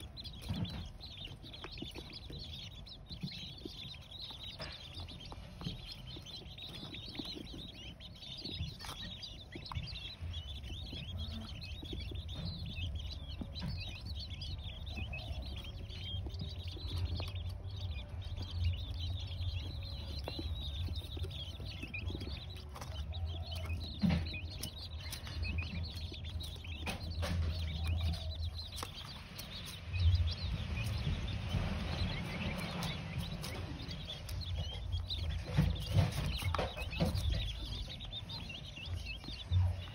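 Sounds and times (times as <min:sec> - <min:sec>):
quail chicks cheeping: 0:00.0 - 0:39.9
steady low rumble: 0:00.0 - 0:39.9.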